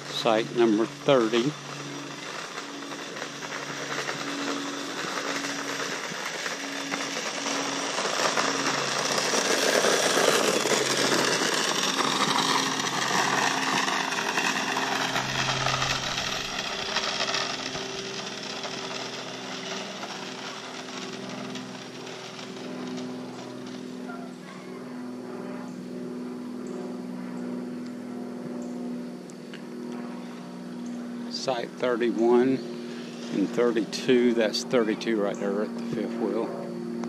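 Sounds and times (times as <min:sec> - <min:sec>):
small engine running: 0:00.0 - 0:37.0
whine falling in pitch: 0:00.0 - 0:37.0.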